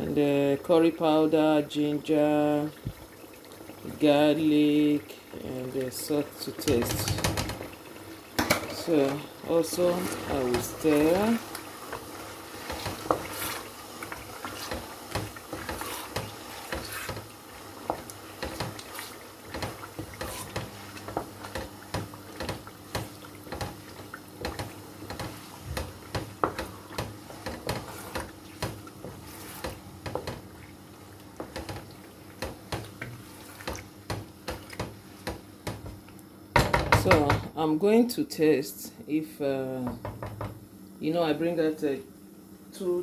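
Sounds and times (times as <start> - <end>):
liquid sloshing in a pot: 1.8 - 36.2.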